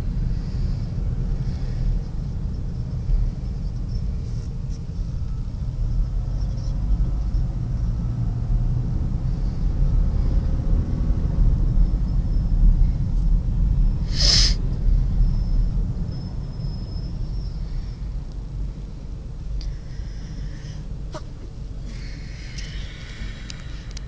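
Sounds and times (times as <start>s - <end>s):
car road rumble: 0.0s - 24.0s.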